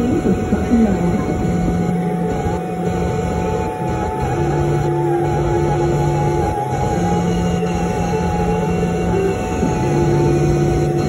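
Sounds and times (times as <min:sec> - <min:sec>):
held low music note: 0:00.0 - 0:11.0
steady low rumble: 0:00.0 - 0:11.0.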